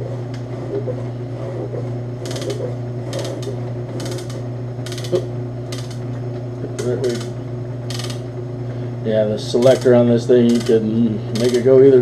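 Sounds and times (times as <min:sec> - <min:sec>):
metal shaper motor hum: 0:00.0 - 0:12.0.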